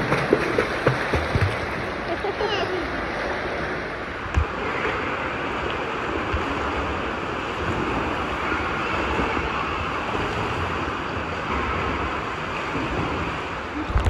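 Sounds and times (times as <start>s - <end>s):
pool water lapping and splashing: 0.0s - 14.0s.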